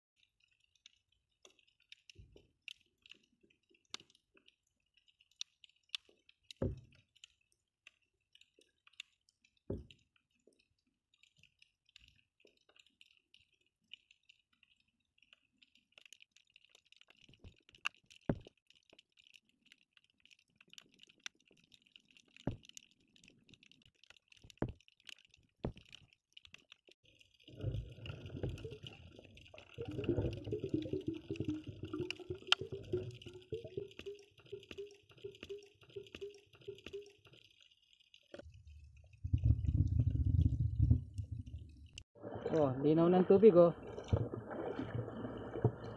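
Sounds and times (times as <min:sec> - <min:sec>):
underwater crackle: 0:00.0 - 0:45.9
sharp clicks underwater: 0:00.2 - 0:42.0
rumbling of stirred water: 0:00.2 - 0:45.9.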